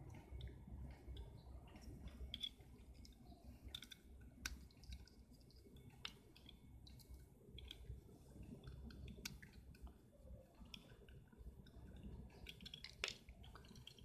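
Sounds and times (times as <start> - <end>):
wire handling noises: 0.0 - 14.0.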